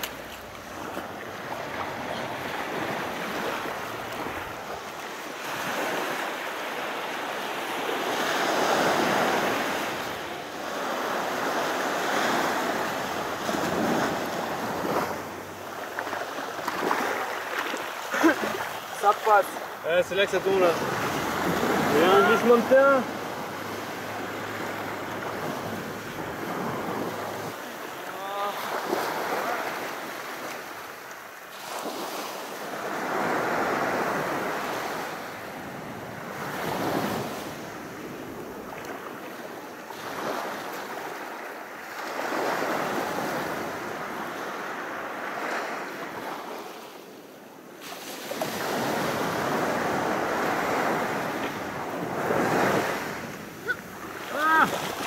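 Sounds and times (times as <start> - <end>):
sea waves washing on a beach: 0.0 - 55.0.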